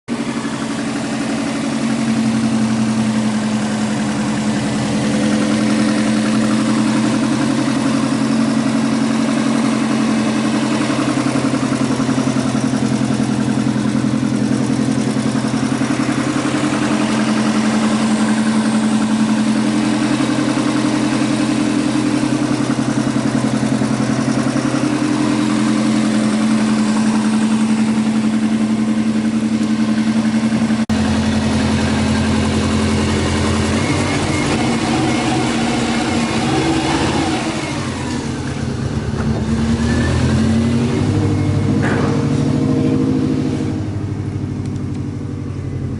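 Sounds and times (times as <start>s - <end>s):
engine knock: 0.1s - 40.0s, 41.0s - 42.6s
car engine idling cold: 0.1s - 45.9s.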